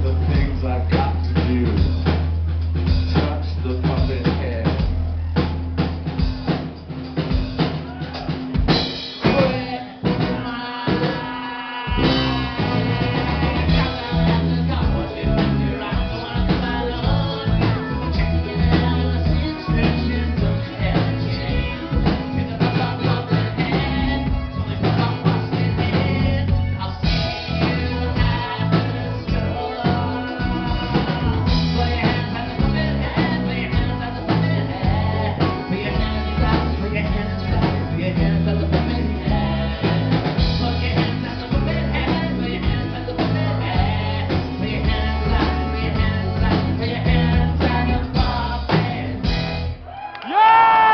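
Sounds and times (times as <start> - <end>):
live rock band playing: 0.0 - 50.9
person singing: 9.2 - 50.9.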